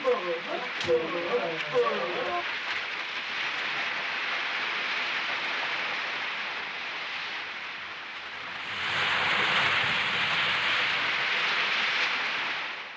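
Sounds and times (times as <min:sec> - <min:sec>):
waves breaking on a beach: 0:00.0 - 0:12.9.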